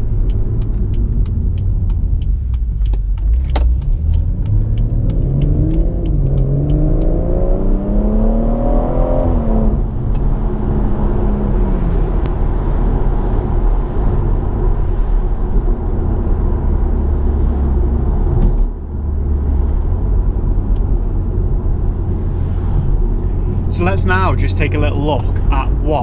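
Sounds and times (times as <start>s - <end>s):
car engine heard from inside cabin: 0.0s - 26.0s.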